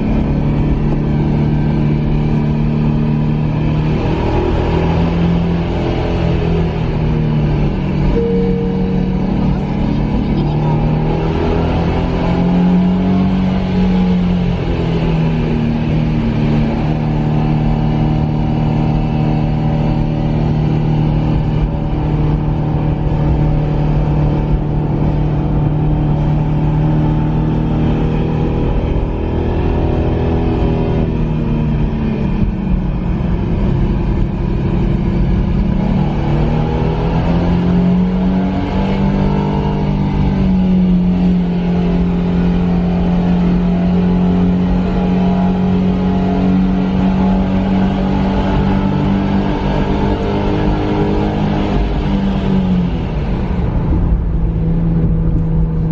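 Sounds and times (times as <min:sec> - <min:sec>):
car engine running under load: 0:00.0 - 0:55.9.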